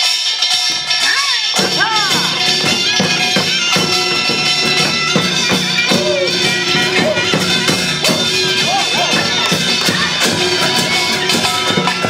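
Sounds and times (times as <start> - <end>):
drums beating: 0.0 - 12.0
small gongs beating: 0.4 - 12.0
shawm melody with pitch bends: 0.7 - 12.0.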